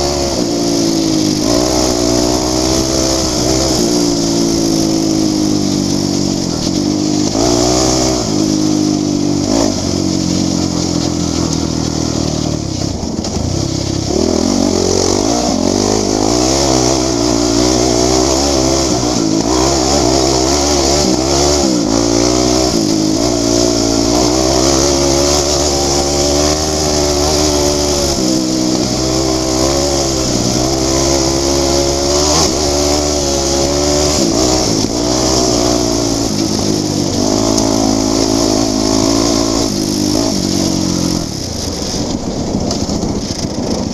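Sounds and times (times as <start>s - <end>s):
quad engine revving: 0.0s - 43.9s.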